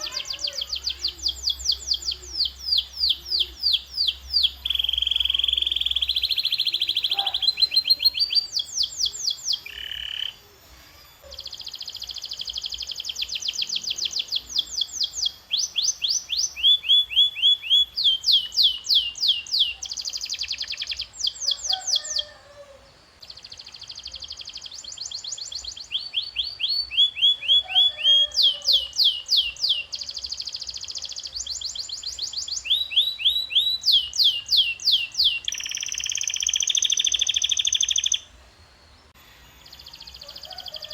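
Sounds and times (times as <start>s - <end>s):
canary singing: 0.0s - 38.4s, 39.0s - 40.9s.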